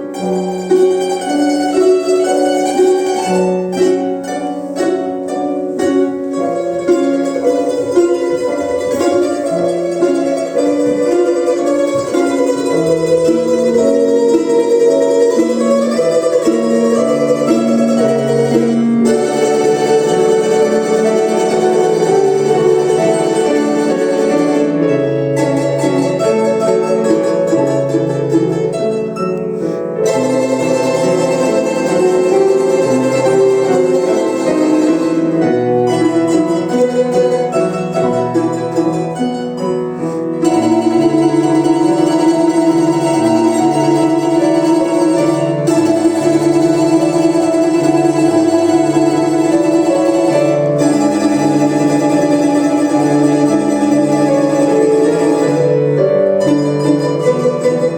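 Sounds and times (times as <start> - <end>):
plucked string ensemble melody: 0.0 - 57.9.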